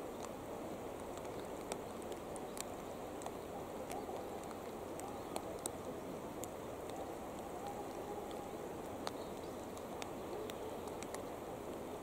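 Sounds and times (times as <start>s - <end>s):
raindrops ticking near microphone: 0.0s - 12.0s
rainfall: 0.0s - 12.0s.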